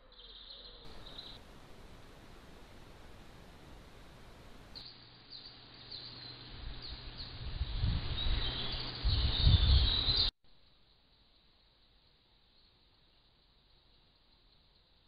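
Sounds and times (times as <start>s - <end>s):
small birds chirping: 0.0s - 1.5s, 3.6s - 15.0s.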